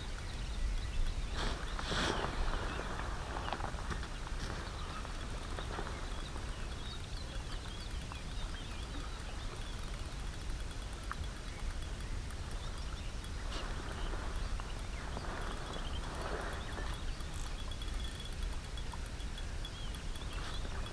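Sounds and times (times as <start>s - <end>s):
small birds chirping: 0.0s - 20.9s
wind rumble on microphone: 0.0s - 20.9s.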